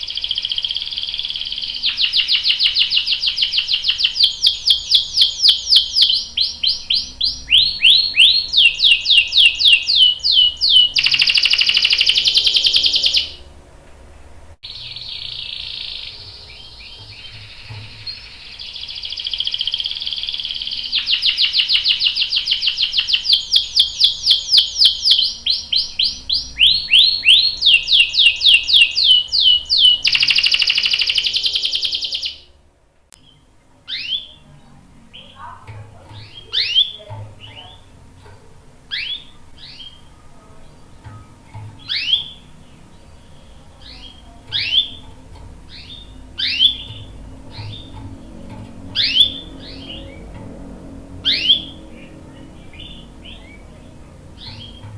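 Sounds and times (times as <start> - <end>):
canary singing trills: 0.0 - 13.6, 14.6 - 54.9.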